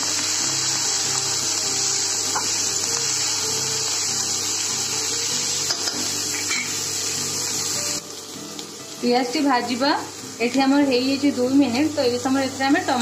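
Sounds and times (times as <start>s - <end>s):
onions and spices sizzling in oil: 0.0s - 13.0s.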